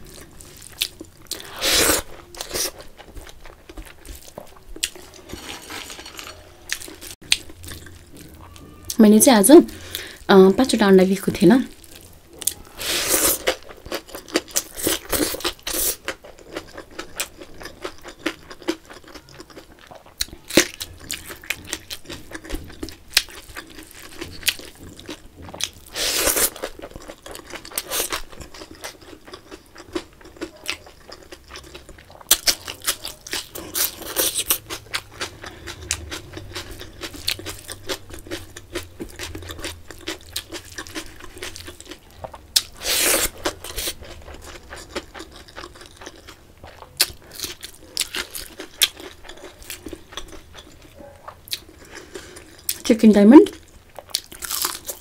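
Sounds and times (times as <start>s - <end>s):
chewing and crunching food: 0.0s - 9.0s, 11.1s - 55.0s.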